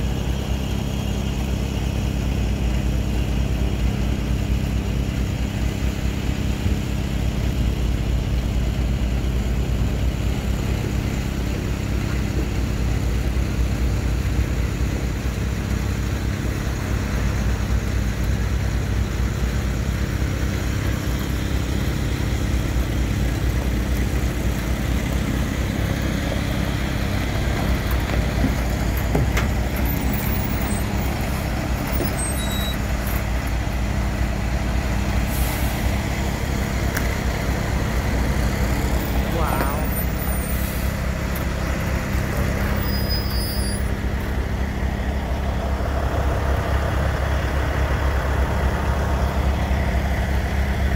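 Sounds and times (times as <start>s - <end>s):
diesel truck engine drone: 0.0s - 50.9s.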